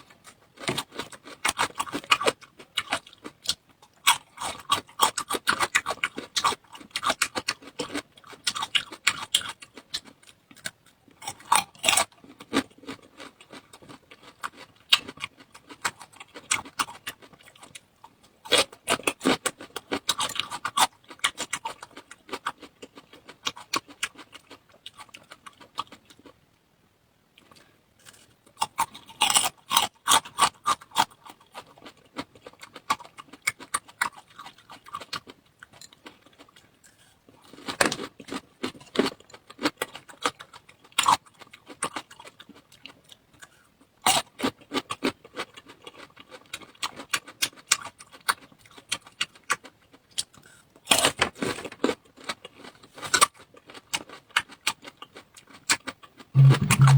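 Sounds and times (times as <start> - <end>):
chewing food: 0.0 - 26.5, 27.4 - 56.9.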